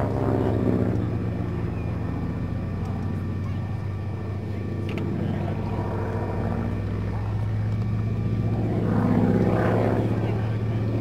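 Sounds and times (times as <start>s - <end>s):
propeller plane droning overhead: 0.0s - 11.0s.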